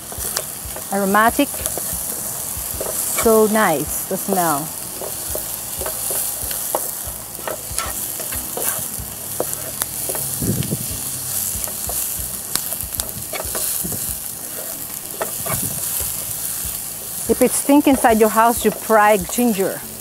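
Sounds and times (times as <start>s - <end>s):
spatula scraping and tapping pan: 0.0s - 19.6s
vegetables sizzling in oil: 0.0s - 20.0s.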